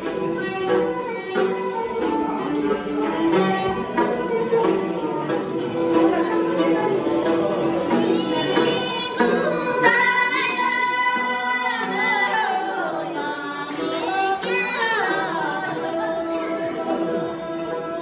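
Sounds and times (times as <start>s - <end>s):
women singing: 0.0s - 18.0s.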